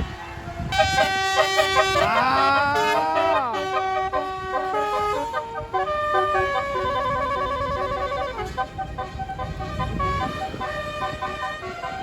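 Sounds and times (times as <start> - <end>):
musical air horn playing a tune: 0.0 - 12.0.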